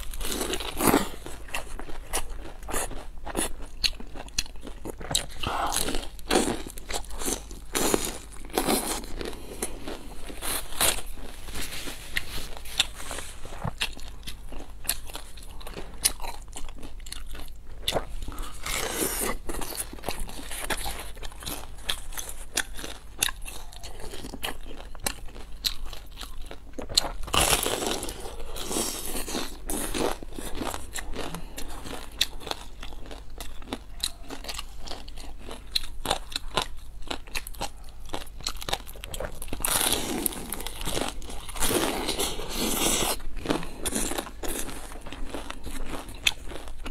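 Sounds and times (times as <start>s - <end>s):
crunchy bites of fried pastry: 0.0s - 11.3s, 12.1s - 46.9s
chewing: 0.0s - 46.9s.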